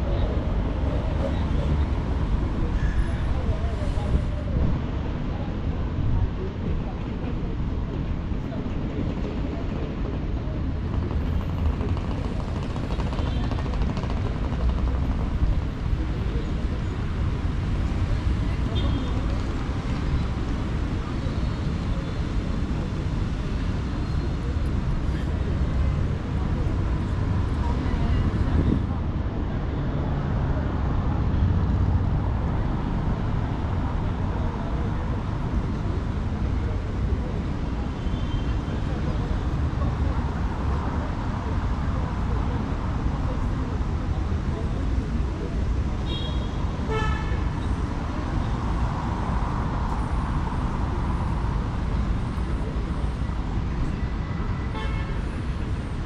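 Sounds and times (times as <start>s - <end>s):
city street traffic: 0.0s - 56.0s
vehicle engine rumbling nearby: 0.0s - 56.0s.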